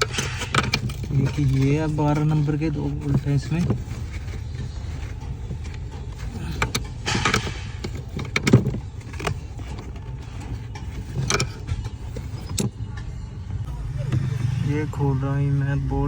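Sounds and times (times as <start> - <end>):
spanner clicking on metal bolts: 0.0 - 12.9
metal clack: 0.0 - 13.6
metal scrape: 0.0 - 16.0.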